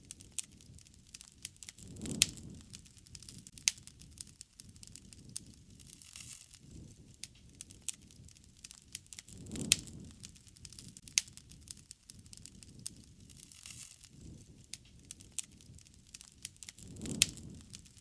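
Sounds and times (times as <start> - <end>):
campfire wood popping: 0.0 - 18.0
flames rushing softly: 0.0 - 18.0.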